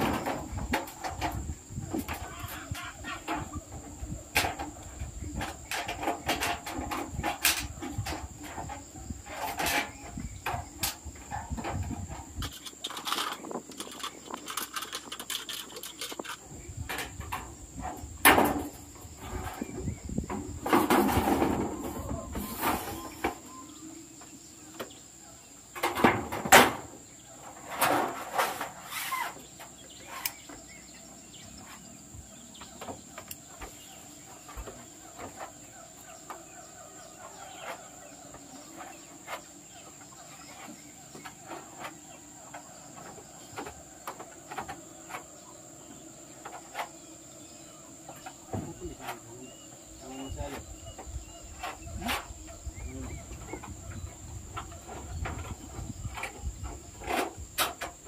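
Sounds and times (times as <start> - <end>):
knocks and clatter on metal roofing: 0.0 - 23.6, 25.7 - 29.8, 32.5 - 45.4, 48.0 - 49.3, 50.0 - 58.0
high insect buzz: 0.0 - 58.0.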